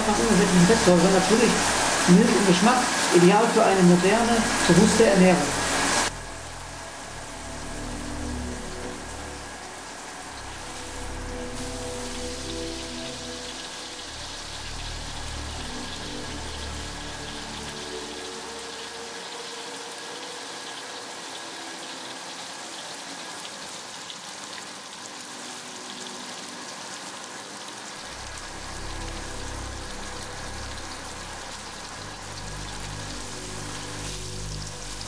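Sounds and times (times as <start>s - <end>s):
meat frying in oil sizzling: 0.0s - 35.0s.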